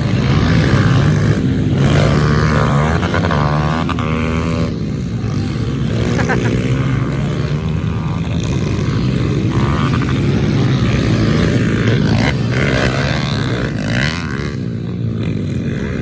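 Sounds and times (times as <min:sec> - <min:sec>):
pit bike engines revving: 0:00.0 - 0:16.0.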